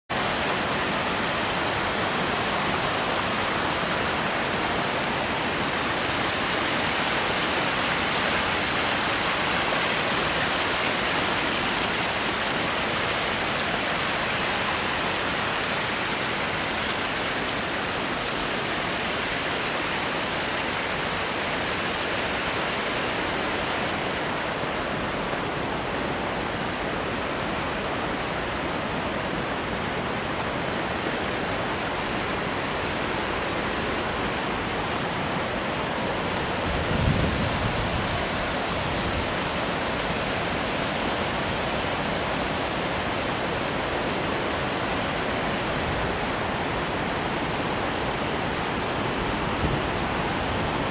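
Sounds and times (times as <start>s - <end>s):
river water rushing over rocks: 0.1s - 50.9s.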